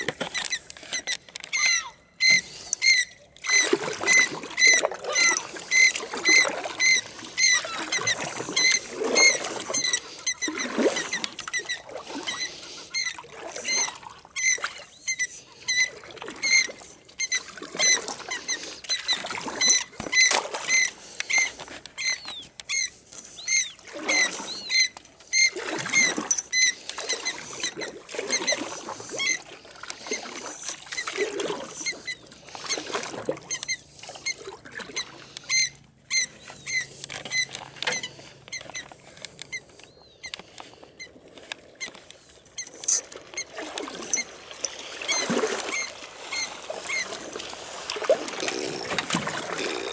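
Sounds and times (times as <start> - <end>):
oarlocks squeaking: 0.0 - 44.4, 45.0 - 49.9
oars swishing through water: 0.0 - 49.9.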